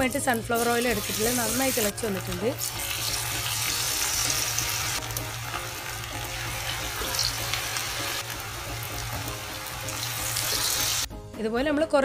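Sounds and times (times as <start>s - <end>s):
battered pieces deep-frying in oil: 0.0s - 11.1s.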